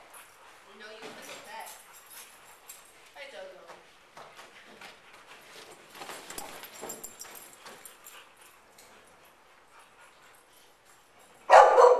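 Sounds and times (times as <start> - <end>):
dog paws scuffing on floor: 0.0 - 11.6.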